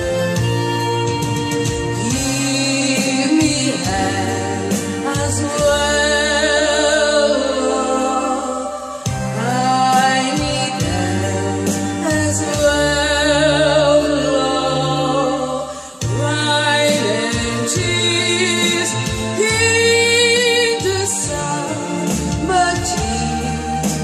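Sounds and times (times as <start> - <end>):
instrumental accompaniment: 0.0 - 24.0
person singing with vibrato: 1.4 - 24.0.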